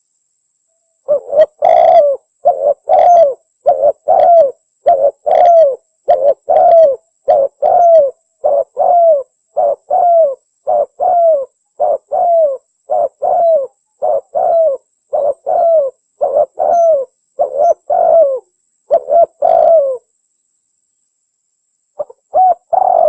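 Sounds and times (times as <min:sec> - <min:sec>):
dove cooing: 0:01.1 - 0:20.1, 0:22.0 - 0:23.0.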